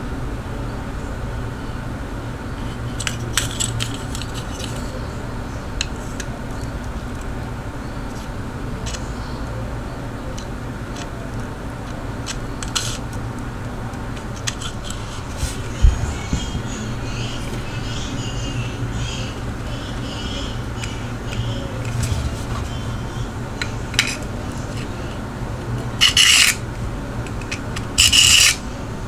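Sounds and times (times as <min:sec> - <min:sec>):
low background rumble: 0:00.1 - 0:29.0.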